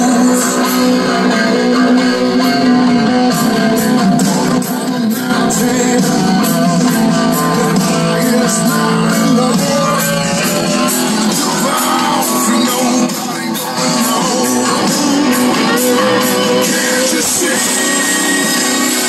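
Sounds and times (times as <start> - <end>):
rock song through speakers: 0.0 - 19.0.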